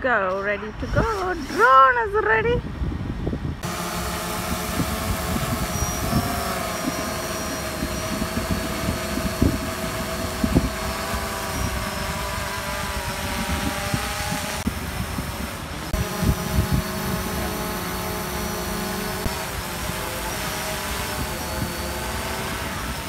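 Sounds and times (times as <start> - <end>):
drone propellers humming: 0.0 - 23.0.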